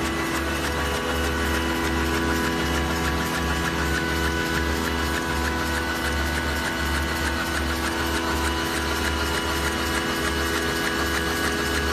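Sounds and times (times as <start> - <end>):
fast regular ticking: 0.0 - 11.9
folding machine drone: 0.0 - 11.9.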